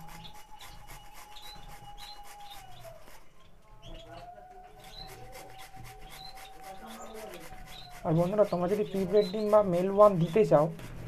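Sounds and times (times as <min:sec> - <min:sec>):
carrot rasping on grater: 0:00.0 - 0:03.3, 0:04.8 - 0:11.0
finches chirping: 0:00.0 - 0:10.7.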